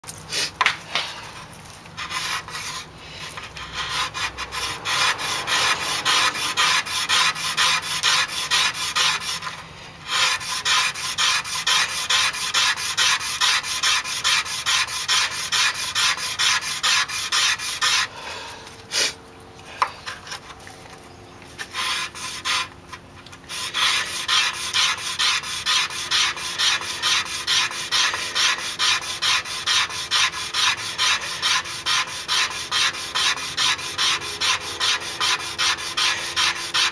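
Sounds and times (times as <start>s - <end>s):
wooden stick scraping wood: 0.0s - 36.9s.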